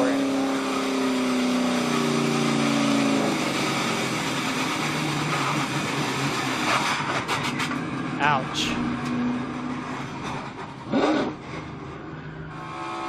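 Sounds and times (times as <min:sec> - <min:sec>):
race car engine slowing: 0:00.0 - 0:13.0.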